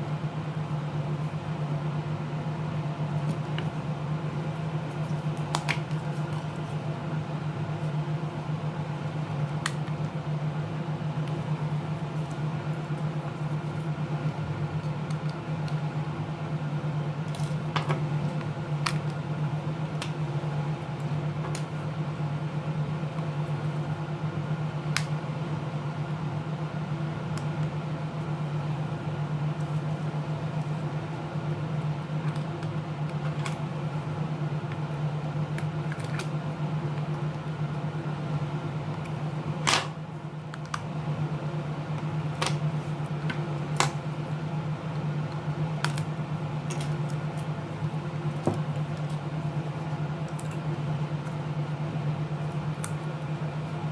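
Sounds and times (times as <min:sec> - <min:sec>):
low electrical hum: 0:00.0 - 0:53.9.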